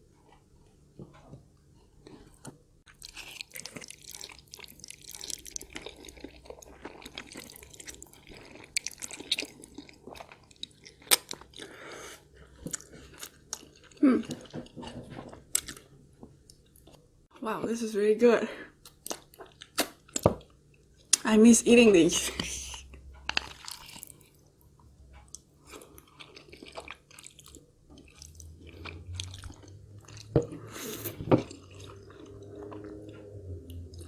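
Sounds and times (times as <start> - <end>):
wet chewing and slurping noodles: 1.9 - 17.0, 18.8 - 21.2, 22.8 - 34.0.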